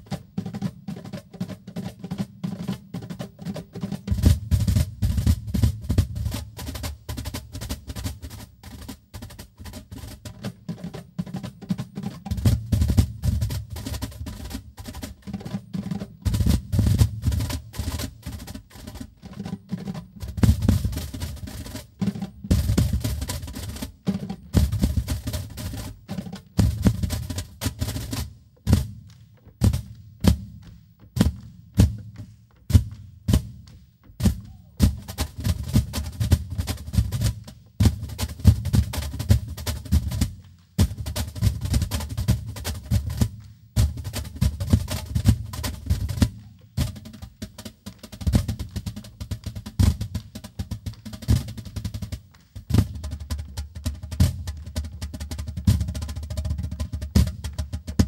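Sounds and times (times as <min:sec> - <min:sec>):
box drums played by hand: 0:00.0 - 0:58.0.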